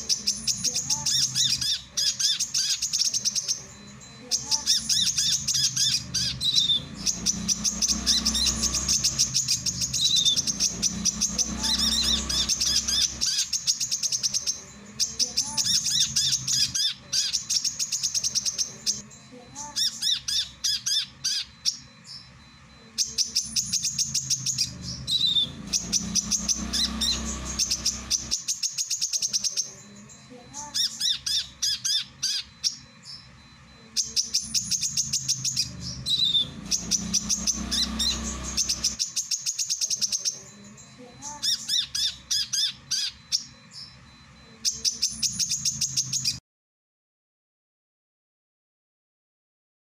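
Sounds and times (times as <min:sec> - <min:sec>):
sunbird chirps and trills: 0:00.0 - 0:46.4.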